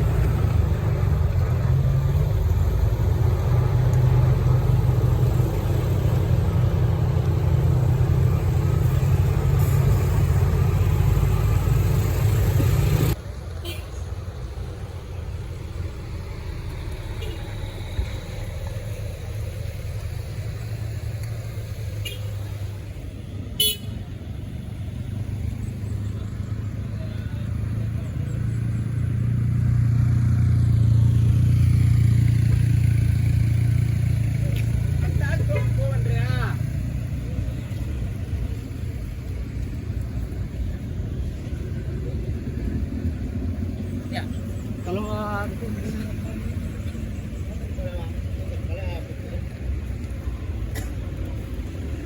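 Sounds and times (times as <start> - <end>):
vehicle engines rumbling: 0.0 - 52.0.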